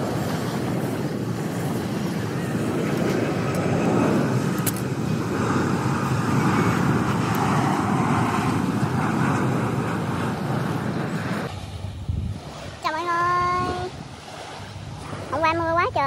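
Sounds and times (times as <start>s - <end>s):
jet airliner flying overhead: 0.0s - 16.0s.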